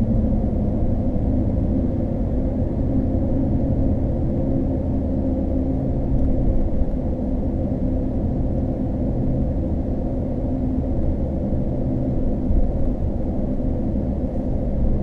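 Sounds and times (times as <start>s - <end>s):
truck engine low rumble: 0.0s - 15.0s
tyres humming on road: 0.0s - 15.0s.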